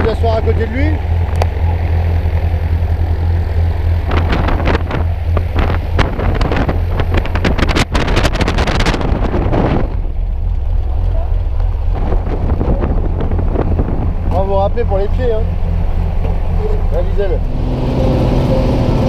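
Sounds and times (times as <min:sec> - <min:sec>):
plane engine droning: 0:00.0 - 0:19.0
wind buffeting microphone: 0:00.0 - 0:19.0.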